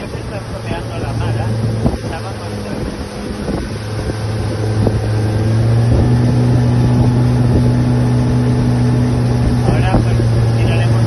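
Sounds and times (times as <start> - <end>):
outboard motor running: 0.0 - 11.0
wind on microphone: 0.0 - 11.0.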